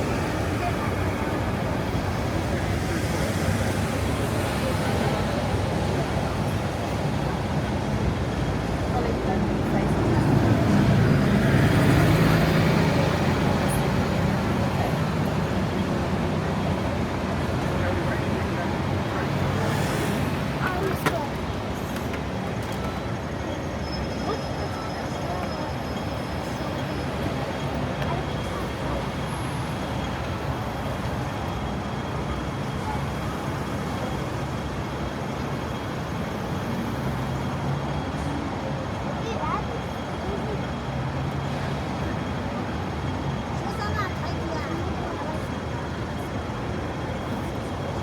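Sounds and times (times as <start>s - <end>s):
faint background voices: 0.0s - 48.0s
road traffic with engine hum: 0.0s - 48.0s.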